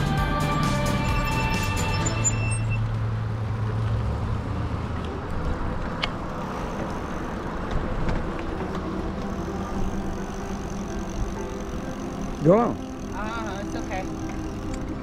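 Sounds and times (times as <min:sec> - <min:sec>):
steady low traffic rumble: 0:00.0 - 0:15.0
vehicle engine hum: 0:00.0 - 0:15.0.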